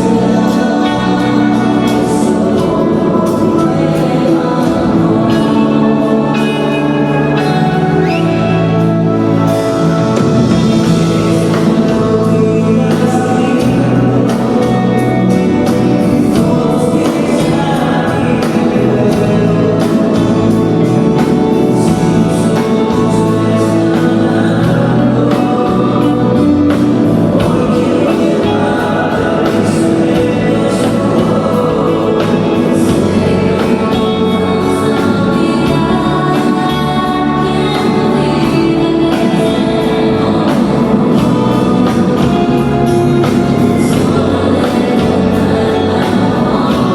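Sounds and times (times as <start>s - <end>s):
song with singing and beat: 0.0s - 46.9s.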